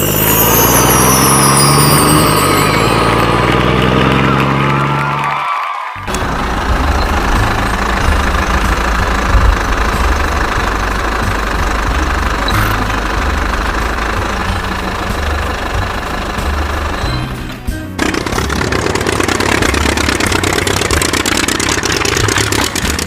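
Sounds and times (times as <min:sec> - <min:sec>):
heavy machinery engine rumbling: 0:00.0 - 0:05.4, 0:06.0 - 0:23.0.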